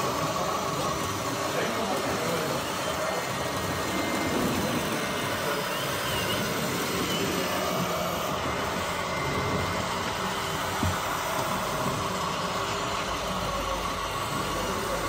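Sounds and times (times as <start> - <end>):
model machines whirring: 0.0 - 15.0.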